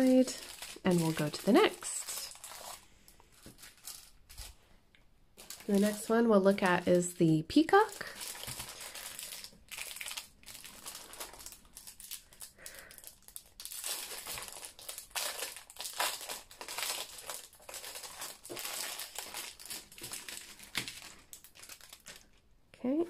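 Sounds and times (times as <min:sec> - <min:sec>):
plastic packaging crinkling: 0:00.0 - 0:04.7, 0:05.4 - 0:22.5.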